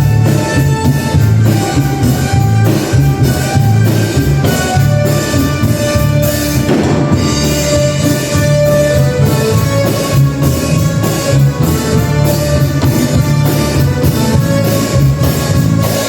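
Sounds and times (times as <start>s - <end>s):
drum kit steady beat: 0.0s - 16.0s
live band playing latin music: 0.0s - 16.0s.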